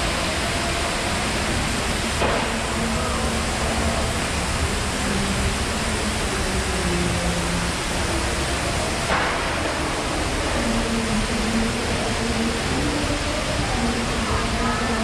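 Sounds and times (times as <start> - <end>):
rushing city background noise: 0.0 - 15.0
sharp hiss: 0.0 - 15.0.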